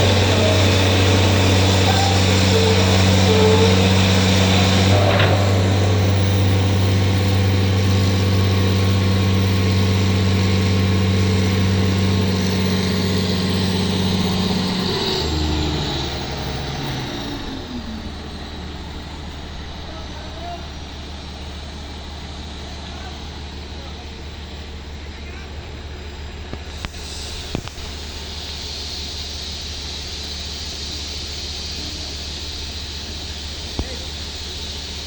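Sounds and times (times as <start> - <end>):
engine running: 0.0 - 35.0.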